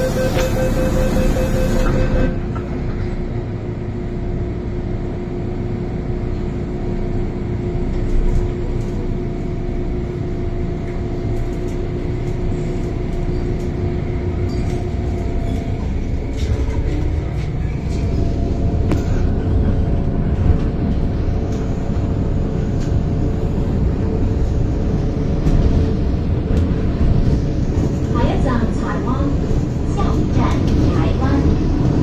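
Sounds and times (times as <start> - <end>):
train equipment hum: 0.0 - 32.0.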